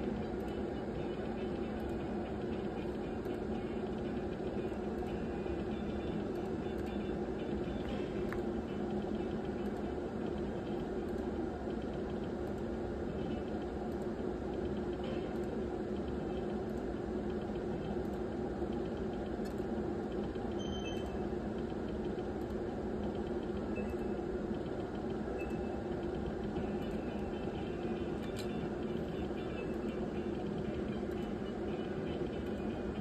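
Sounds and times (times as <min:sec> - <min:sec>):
slot machine hum: 0:00.0 - 0:33.0.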